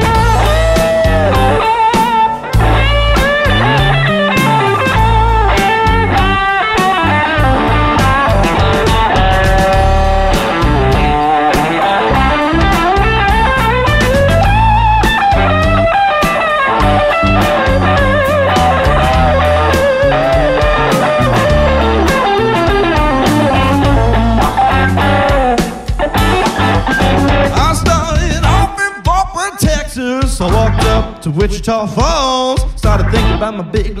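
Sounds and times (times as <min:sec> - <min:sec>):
electric guitar lead: 0:00.0 - 0:29.6, 0:30.4 - 0:31.4, 0:32.9 - 0:33.8
bass guitar: 0:00.0 - 0:34.0
steady drum beat: 0:00.0 - 0:34.0.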